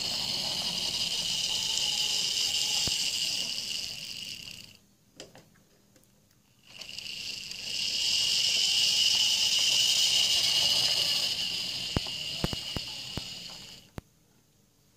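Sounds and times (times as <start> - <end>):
model locomotive motor whine: 0.0 - 4.8, 6.6 - 14.0.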